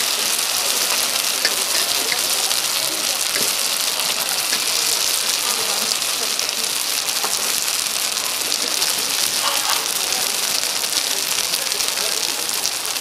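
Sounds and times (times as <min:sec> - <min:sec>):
dumplings deep-frying in oil: 0:00.0 - 0:13.0.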